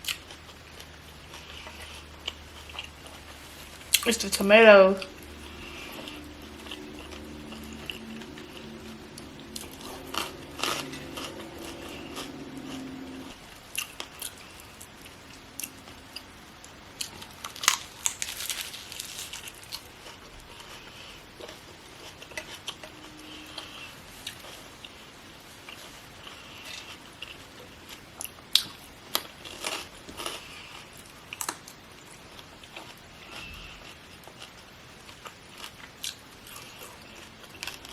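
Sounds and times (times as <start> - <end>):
chewing crunchy food: 0.0 - 4.1, 5.1 - 25.0, 25.6 - 37.9
low steady hum: 0.0 - 37.9.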